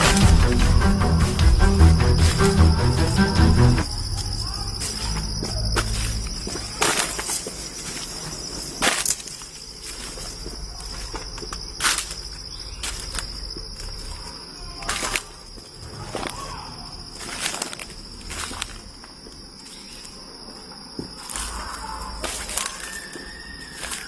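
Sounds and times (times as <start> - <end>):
insects buzzing: 0.0 - 24.0.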